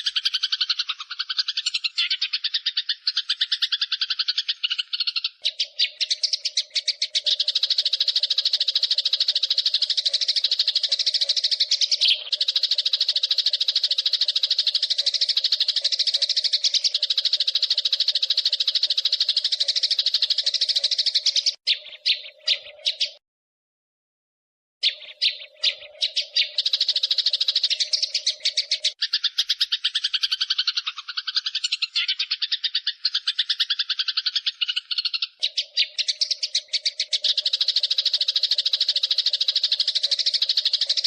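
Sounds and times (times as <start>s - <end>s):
lower bird call: 0.0s - 23.2s, 24.8s - 41.0s
sparrows chattering: 0.0s - 23.2s, 24.8s - 41.0s.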